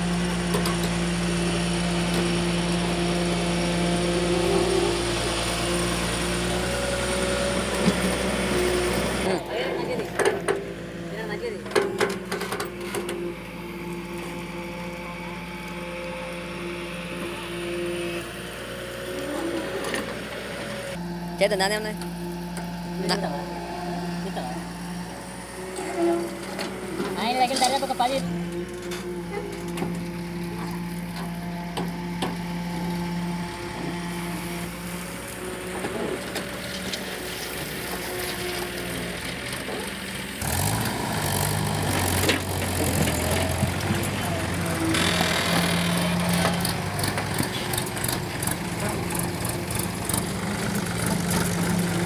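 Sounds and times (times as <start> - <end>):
diesel engine running: 0.0 - 52.0
motor whining hum: 0.0 - 52.0.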